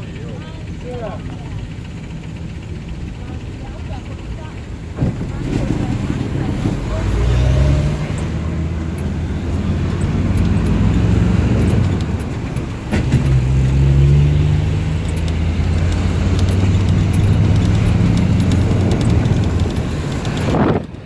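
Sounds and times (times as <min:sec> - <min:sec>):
car engine hum: 0:00.0 - 0:21.0
road noise: 0:00.0 - 0:21.0.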